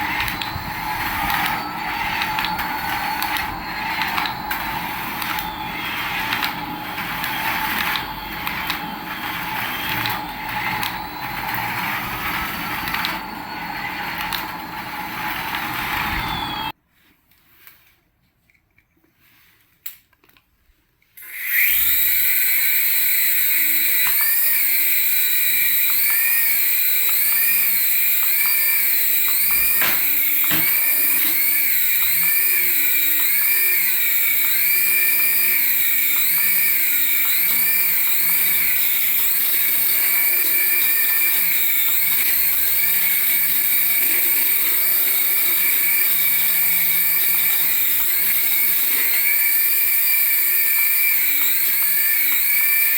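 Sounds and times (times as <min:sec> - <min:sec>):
toy electric motor whining: 0:00.0 - 0:16.8, 0:21.2 - 0:52.9.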